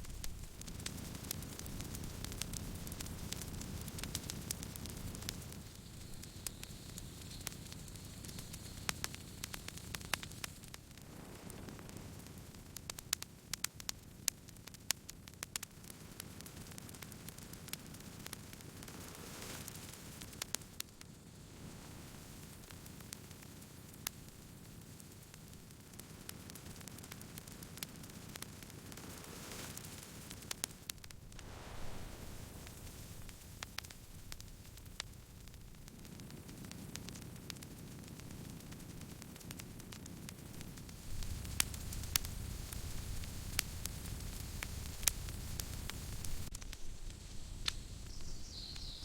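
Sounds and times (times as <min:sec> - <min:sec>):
campfire crackling and popping: 0:00.0 - 0:49.0
low noise of burning fire: 0:00.0 - 0:49.0.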